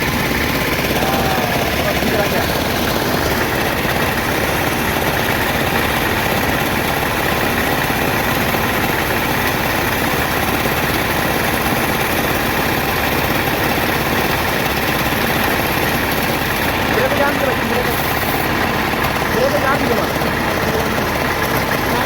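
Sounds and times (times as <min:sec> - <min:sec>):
machine motor droning: 0:00.0 - 0:22.0.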